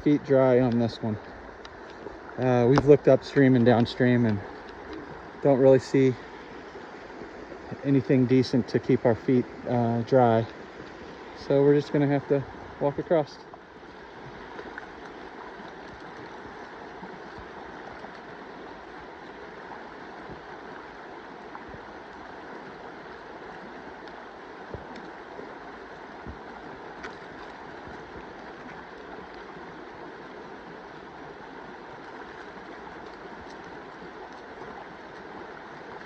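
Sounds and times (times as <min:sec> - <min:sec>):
mountain stream flowing: 0:00.0 - 0:36.0.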